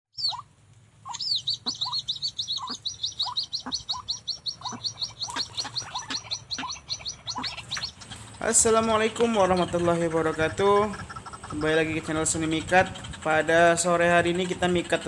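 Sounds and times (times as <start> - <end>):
rapid high bird chirps: 0.1 - 15.0.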